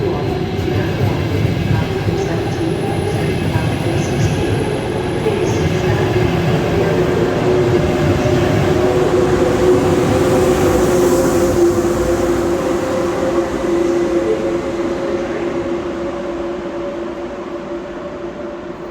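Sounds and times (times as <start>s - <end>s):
electric train rumbling with whine: 0.0s - 18.9s.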